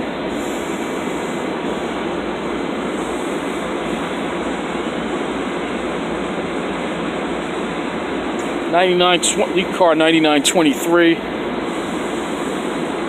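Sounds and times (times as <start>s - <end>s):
electric train rushing rumble: 0.0s - 13.0s.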